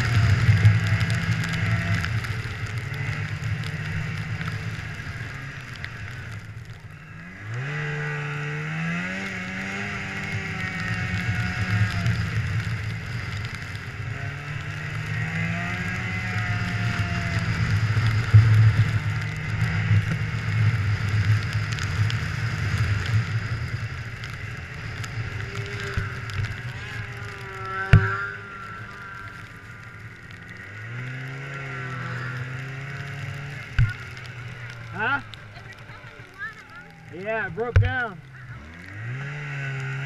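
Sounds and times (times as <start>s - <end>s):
snowmobile engine running: 0.0s - 40.0s.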